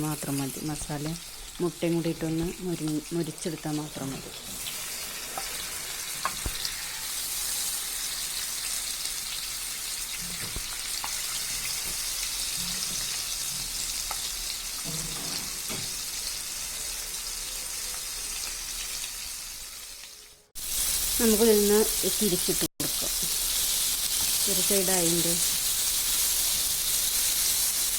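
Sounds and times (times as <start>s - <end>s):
eggs sizzling in oil: 0.0s - 27.9s.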